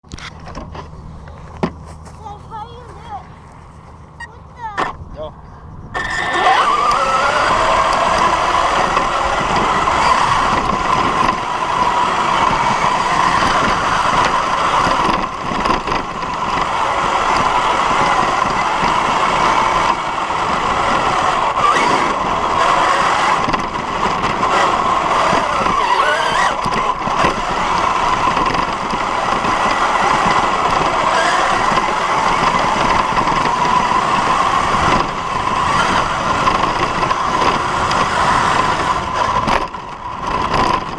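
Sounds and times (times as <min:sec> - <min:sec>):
chassis rattling on dirt: 0:00.0 - 0:40.9
toy car motor whining: 0:05.9 - 0:40.9.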